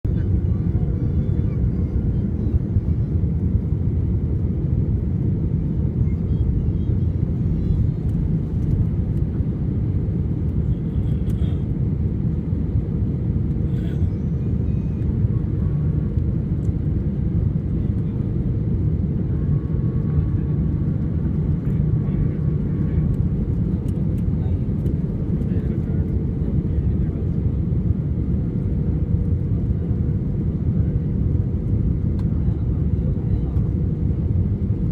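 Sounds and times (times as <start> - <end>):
jet engines rumbling in cabin: 0.1 - 34.9.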